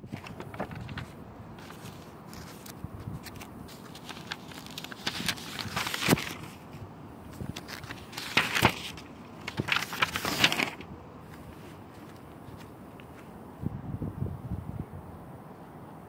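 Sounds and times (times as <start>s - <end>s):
paper pages rustling: 0.0s - 13.3s.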